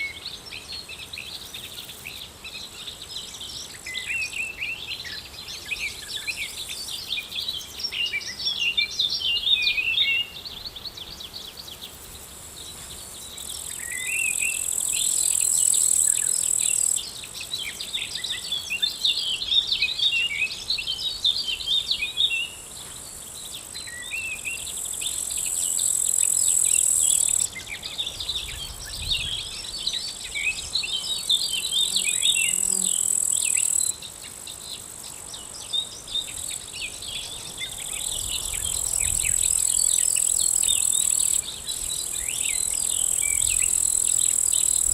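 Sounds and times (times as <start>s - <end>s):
small birds chirping: 0.0s - 44.9s
high insect trill: 0.3s - 44.9s.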